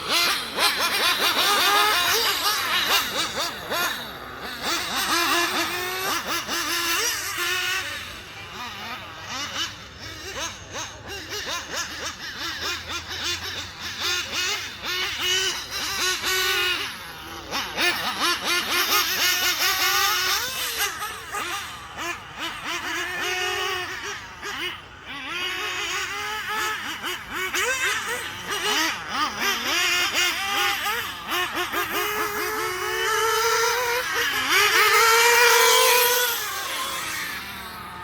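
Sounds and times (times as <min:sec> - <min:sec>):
model engine revving: 0:00.0 - 0:38.0.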